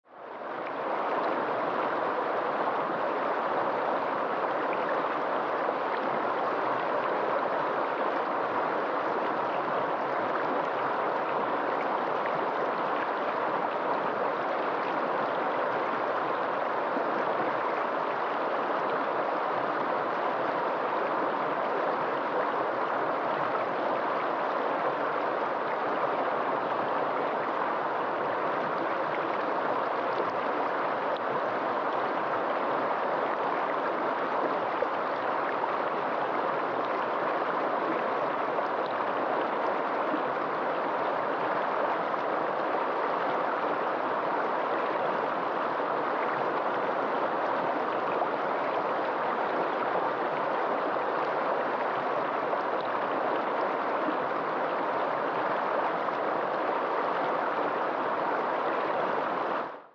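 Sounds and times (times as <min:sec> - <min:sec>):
river rushing over rocks: 0:00.1 - 0:59.8.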